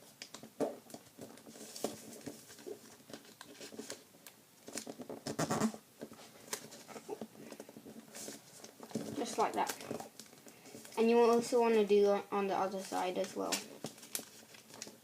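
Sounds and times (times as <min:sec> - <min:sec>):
paper rustling and creasing: 0:00.0 - 0:15.0.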